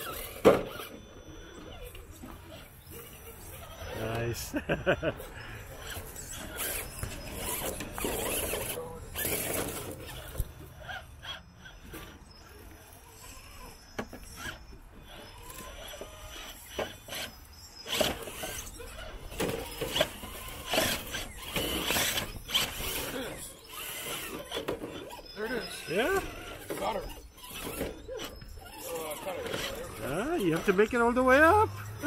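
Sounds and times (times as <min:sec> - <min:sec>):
toy car electric motor whining: 0:00.0 - 0:32.0.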